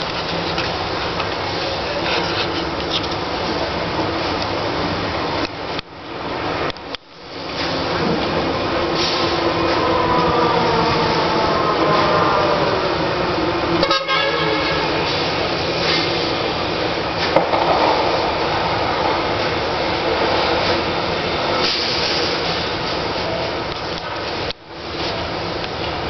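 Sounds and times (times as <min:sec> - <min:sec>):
passing train rumble: 0:00.0 - 0:26.0.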